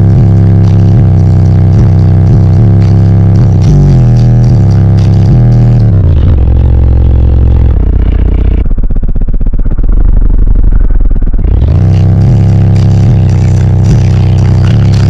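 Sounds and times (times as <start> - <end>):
car subwoofers playing deep bass: 0.0 - 15.0.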